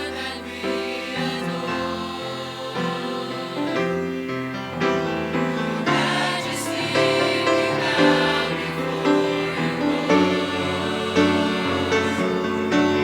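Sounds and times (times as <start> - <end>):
choir singing gospel in harmony: 0.0 - 13.0.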